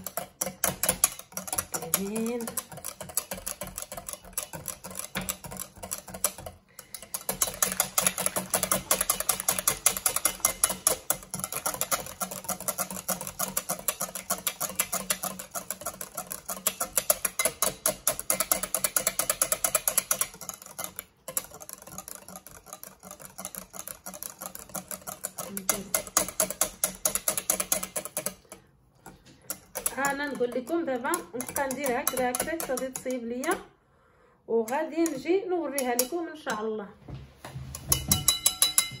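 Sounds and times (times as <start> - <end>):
wire whisk beating in glass bowl: 0.0 - 33.7, 34.6 - 36.7, 37.7 - 39.0.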